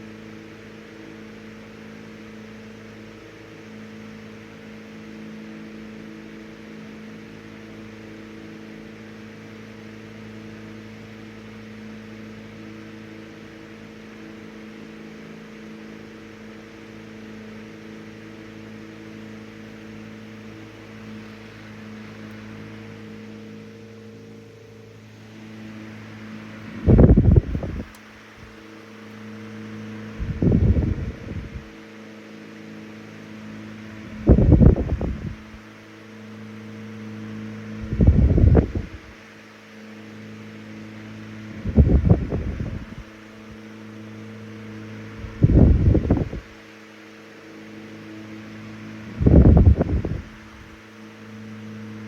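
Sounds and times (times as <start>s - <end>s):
table fan running: 0.0s - 52.0s.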